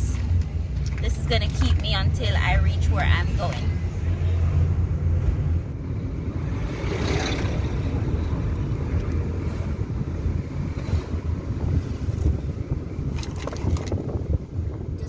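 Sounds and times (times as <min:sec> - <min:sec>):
car engine and tyres rumbling: 0:00.0 - 0:15.0
wind noise: 0:00.0 - 0:15.0.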